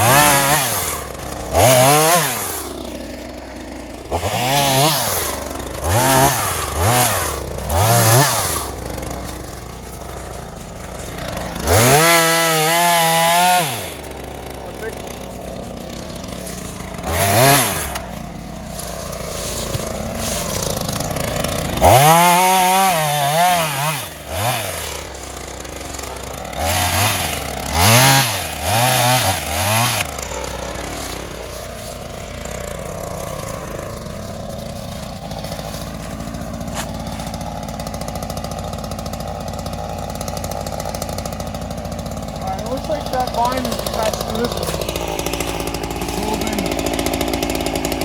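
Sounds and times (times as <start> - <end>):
chainsaw idling and revving: 0.0 - 48.0.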